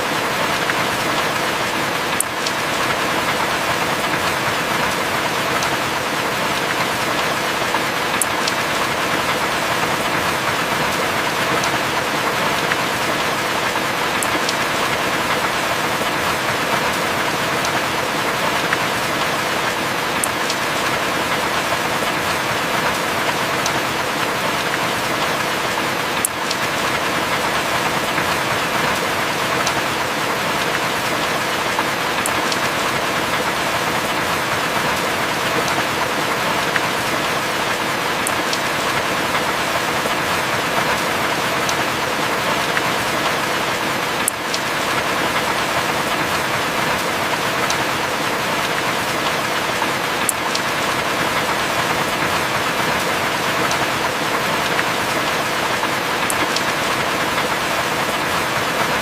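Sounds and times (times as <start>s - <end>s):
heavy rain hissing: 0.0s - 59.0s
raindrop ticks: 2.0s - 57.6s.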